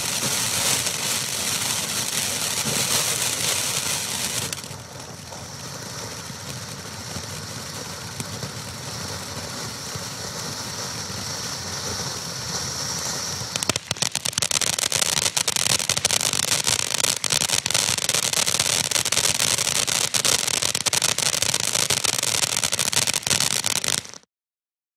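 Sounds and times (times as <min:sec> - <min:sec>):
dense firework crackling: 0:00.0 - 0:24.3
firework fountain hissing: 0:00.0 - 0:24.3.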